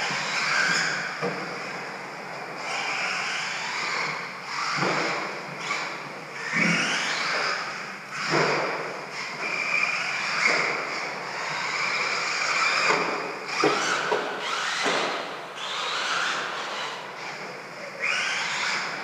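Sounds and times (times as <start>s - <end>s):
toy truck motor whine: 0.0s - 19.0s.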